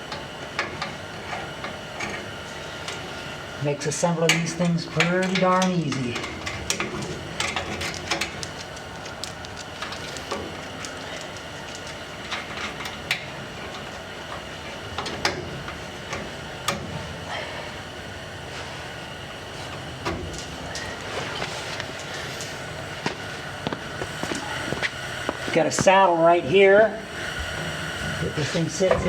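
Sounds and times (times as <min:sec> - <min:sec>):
steady background noise: 0:00.0 - 0:29.0.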